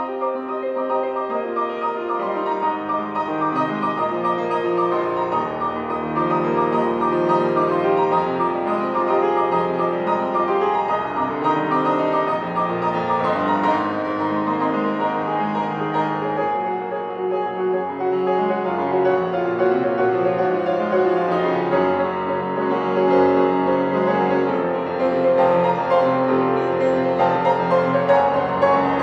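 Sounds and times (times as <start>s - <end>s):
solo grand piano: 0.0s - 29.0s.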